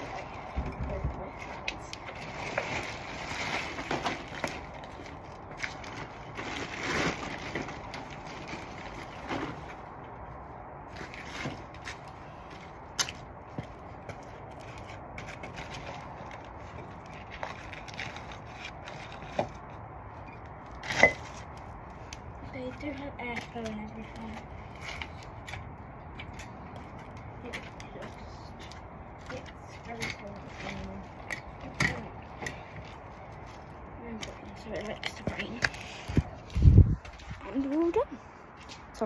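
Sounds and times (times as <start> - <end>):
covers rustling and scraping: 0.0 - 25.7, 26.7 - 39.0.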